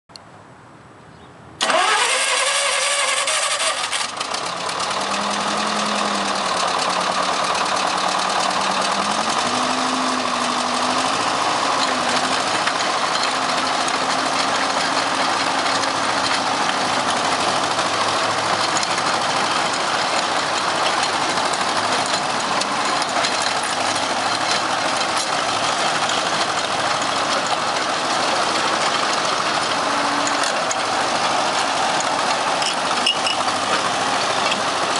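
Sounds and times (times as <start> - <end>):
engine cranking and idling: 1.6 - 34.9.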